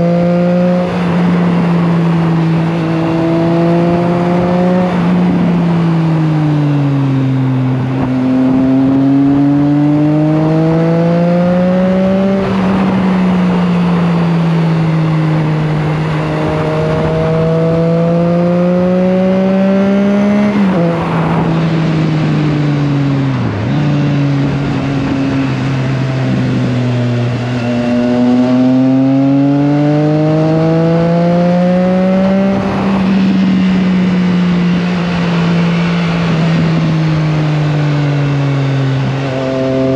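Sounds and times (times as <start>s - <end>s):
motorcycle engine revving through gears: 0.0s - 39.9s
wind rushing over microphone: 0.0s - 39.9s.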